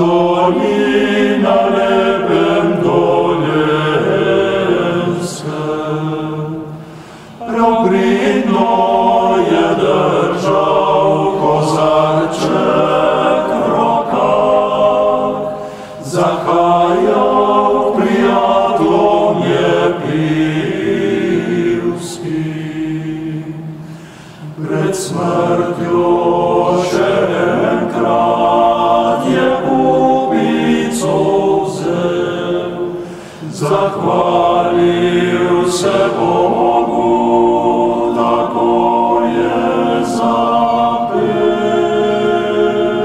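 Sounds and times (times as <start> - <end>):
male choir singing in harmony: 0.0 - 43.0.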